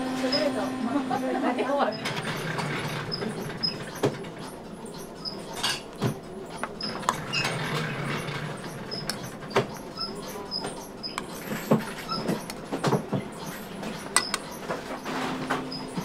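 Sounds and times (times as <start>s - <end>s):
low steady machine hum: 0.0s - 16.0s
high chirping squeaks: 1.9s - 5.8s, 6.4s - 16.0s.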